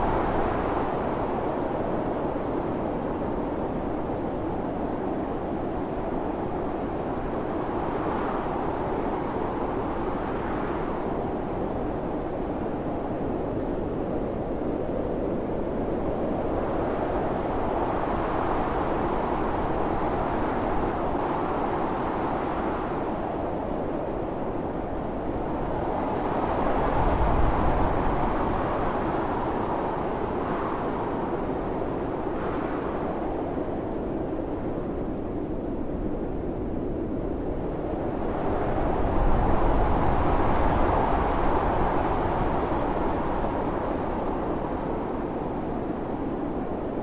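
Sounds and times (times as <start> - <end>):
blizzard wind blowing: 0.0 - 47.0.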